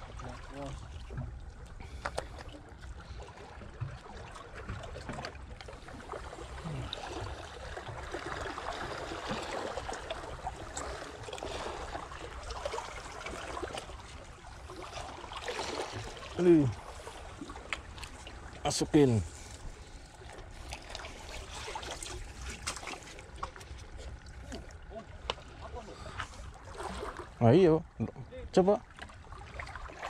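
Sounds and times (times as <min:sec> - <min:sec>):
sea water lapping: 0:00.0 - 0:30.0.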